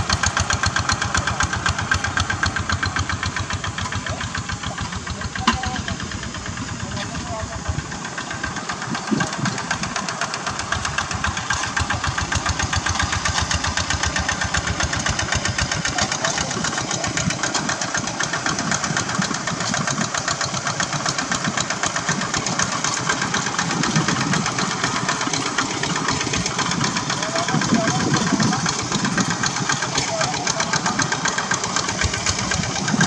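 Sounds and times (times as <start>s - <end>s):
diesel engine chugging: 0.0s - 33.0s.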